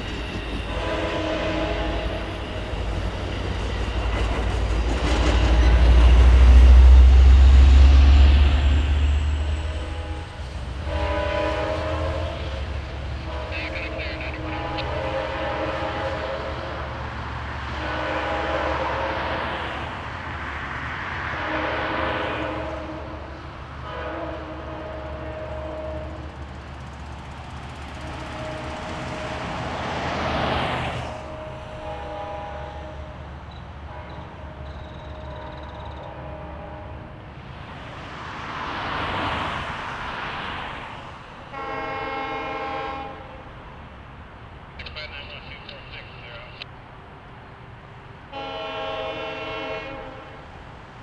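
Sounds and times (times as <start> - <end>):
locomotive engine hum: 0.0 - 51.0
train wheels rumbling on rail: 0.0 - 51.0.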